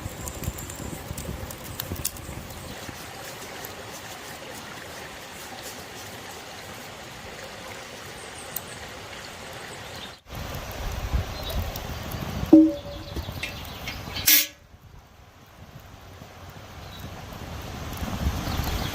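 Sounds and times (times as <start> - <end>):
stream flowing: 0.0 - 18.9.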